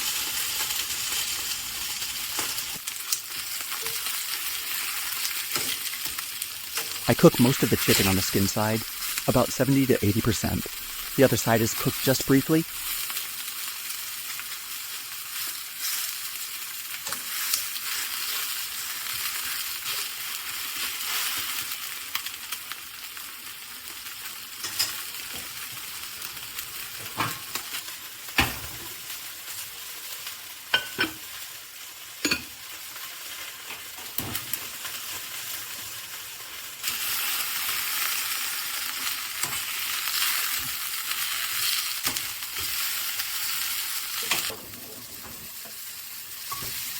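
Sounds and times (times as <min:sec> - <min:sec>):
chicken sizzling in oil: 0:00.0 - 0:46.9.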